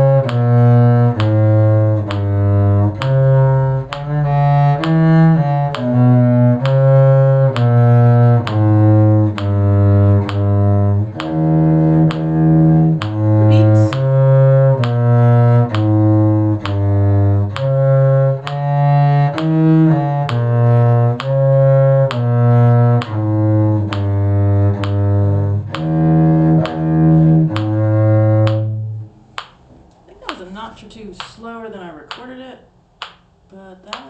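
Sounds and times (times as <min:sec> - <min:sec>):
bowed string ensemble playing: 0:00.0 - 0:29.5.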